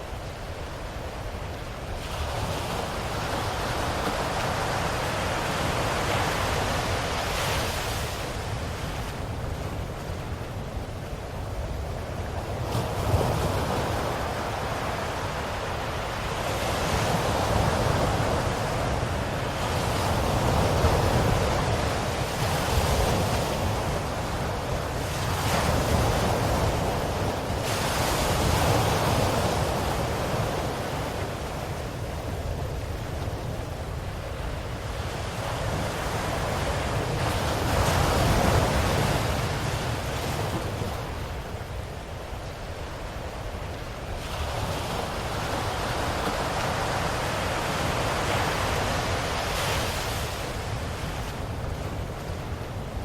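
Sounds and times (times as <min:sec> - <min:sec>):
ocean waves washing onto shore: 0:00.0 - 0:53.0.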